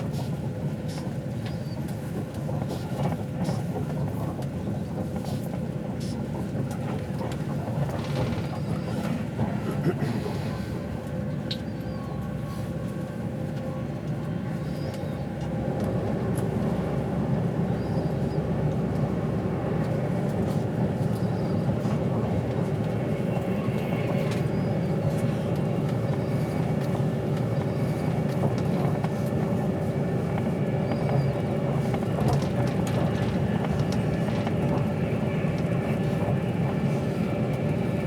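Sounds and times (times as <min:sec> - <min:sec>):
train rumbling at speed: 0:00.0 - 0:38.0.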